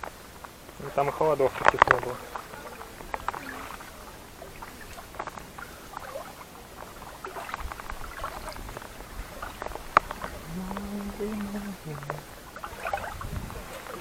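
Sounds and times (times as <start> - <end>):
light rustling: 0.0 - 14.0.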